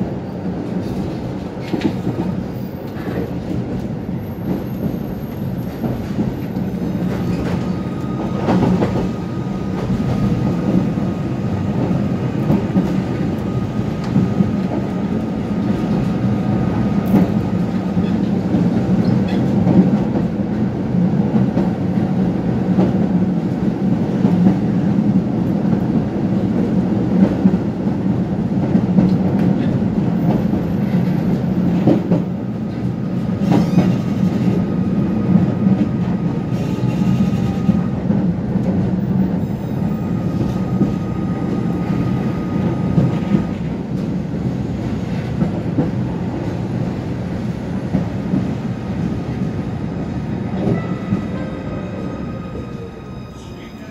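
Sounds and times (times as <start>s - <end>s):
tram wheels rumbling on rail: 0.0s - 53.9s.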